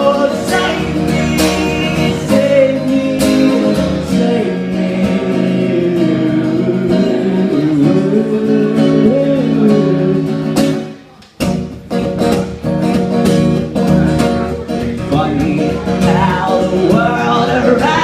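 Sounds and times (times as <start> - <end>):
folk band playing: 0.0 - 18.0
strummed acoustic guitar: 0.0 - 18.0.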